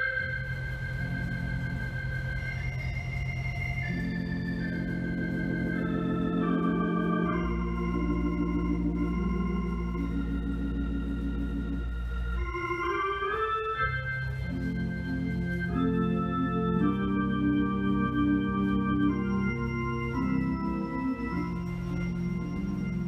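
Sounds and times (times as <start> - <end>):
organ playing chords: 0.0 - 23.0.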